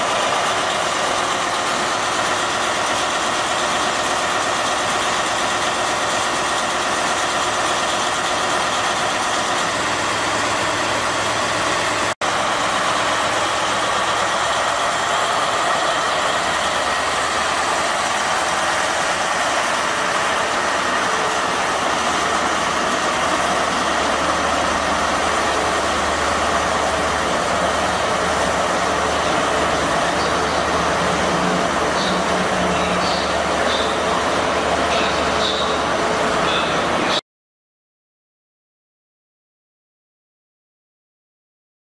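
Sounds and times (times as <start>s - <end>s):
diesel engine idling: 0.0s - 37.2s.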